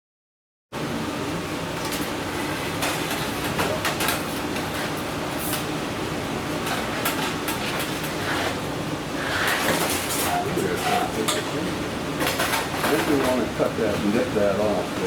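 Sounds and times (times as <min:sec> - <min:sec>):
workshop hum: 0:00.8 - 0:15.0.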